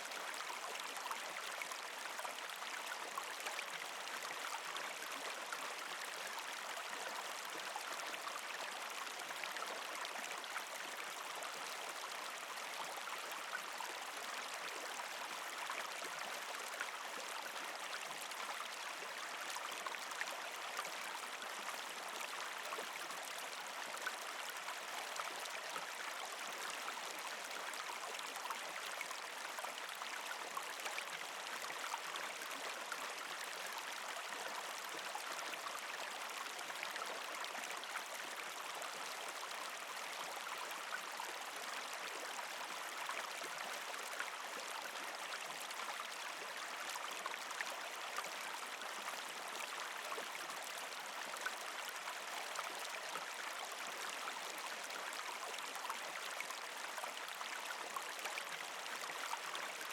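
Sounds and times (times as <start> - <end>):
creek water gurgling over rocks: 0.0 - 59.9.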